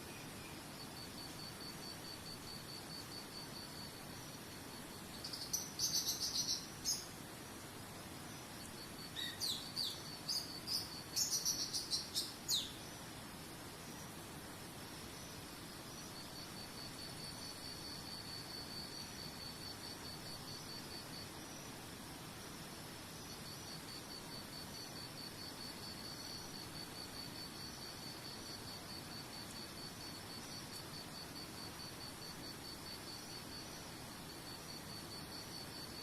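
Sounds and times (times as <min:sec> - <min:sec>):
insect chirping in high pulses: 0:00.0 - 0:36.0.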